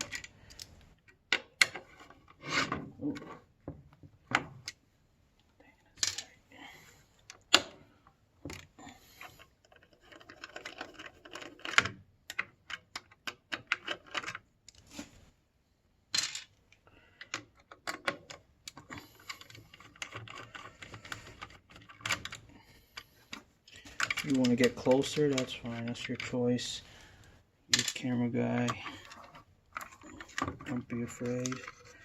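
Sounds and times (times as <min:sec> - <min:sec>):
small parts clicking and clattering: 0:00.0 - 0:04.8, 0:05.8 - 0:06.4, 0:07.2 - 0:14.9, 0:16.1 - 0:26.9, 0:27.6 - 0:32.0.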